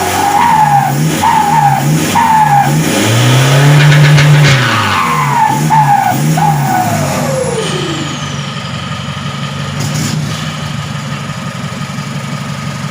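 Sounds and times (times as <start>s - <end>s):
engine revving then idling: 0.0s - 11.0s.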